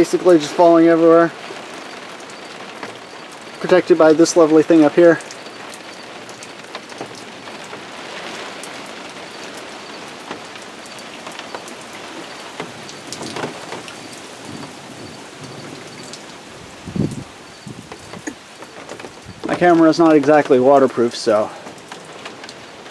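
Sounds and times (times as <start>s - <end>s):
heavy rain hissing: 0.0s - 22.9s
rain pouring off awning: 0.0s - 22.9s
sharp raindrop ticks: 0.0s - 22.9s.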